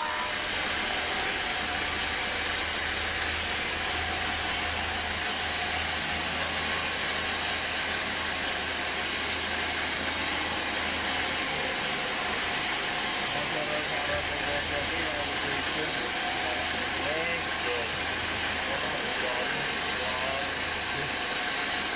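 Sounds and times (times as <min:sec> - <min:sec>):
low motor hum: 0:00.0 - 0:21.9.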